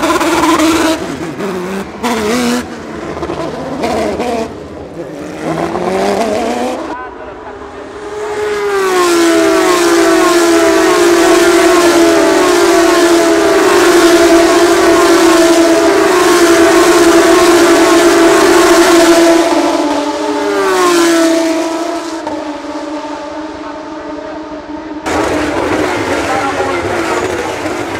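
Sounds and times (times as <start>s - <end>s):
race cars passing at full throttle: 0.0s - 27.9s.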